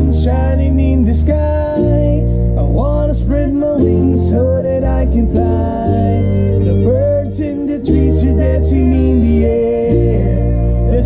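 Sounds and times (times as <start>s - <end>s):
bass guitar deep notes: 0.0s - 11.0s
electric guitars: 0.0s - 11.0s
men singing: 0.0s - 11.0s
ukulele: 0.0s - 11.0s.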